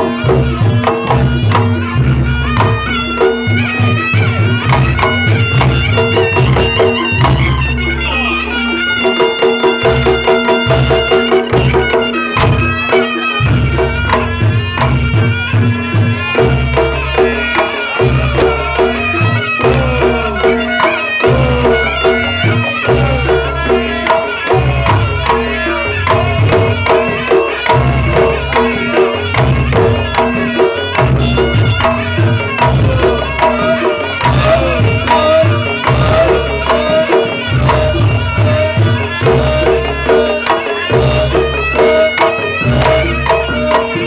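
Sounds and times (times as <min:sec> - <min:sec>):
fast barrel drum pattern: 0:00.0 - 0:44.0
reedy shawm melody: 0:00.0 - 0:44.0.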